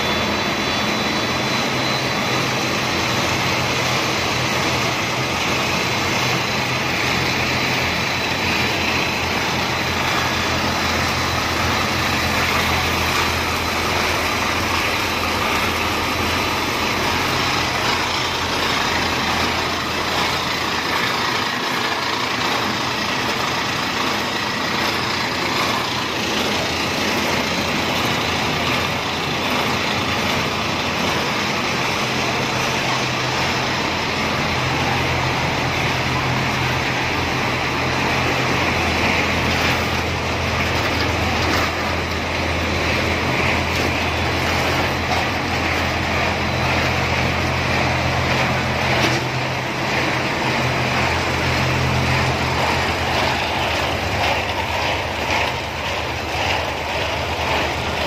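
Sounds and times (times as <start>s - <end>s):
low machinery hum: 0.0s - 58.0s
production line machinery running: 0.0s - 58.0s.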